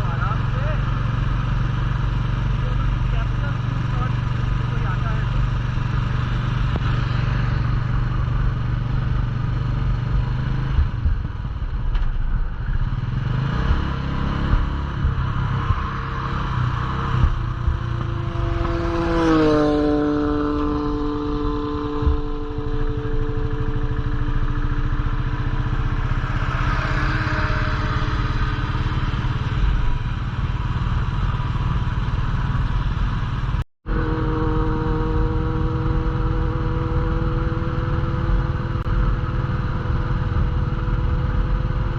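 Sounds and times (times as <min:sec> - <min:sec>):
engine whine: 0:00.0 - 0:41.9
motorcycle engine cruising: 0:00.0 - 0:41.9.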